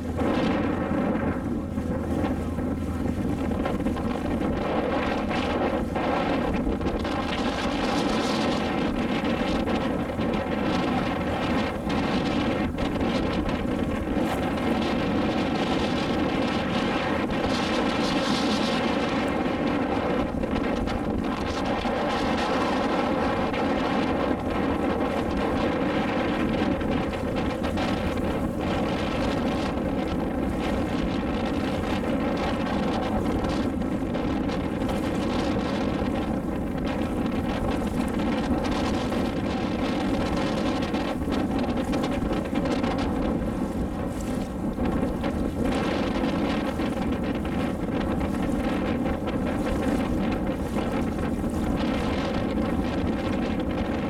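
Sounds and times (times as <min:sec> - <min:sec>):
boat engine running: 0:00.0 - 0:54.0
wind on microphone: 0:00.0 - 0:54.0.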